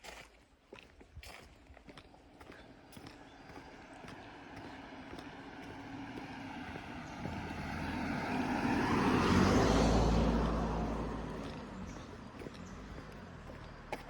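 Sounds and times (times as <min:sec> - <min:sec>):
car passing by: 0:02.6 - 0:14.0.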